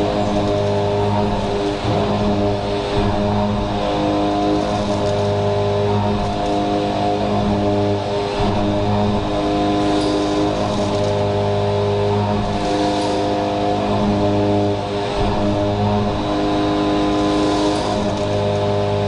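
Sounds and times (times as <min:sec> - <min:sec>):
milling machine cutting steel: 0:00.0 - 0:19.0.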